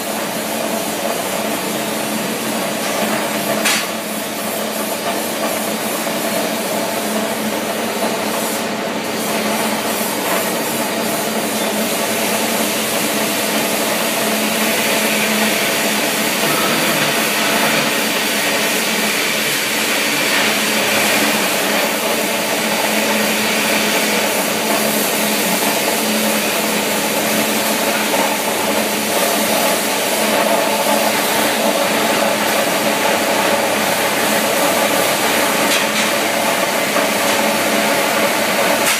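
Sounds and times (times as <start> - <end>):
gas torch hissing: 7.7 - 38.9.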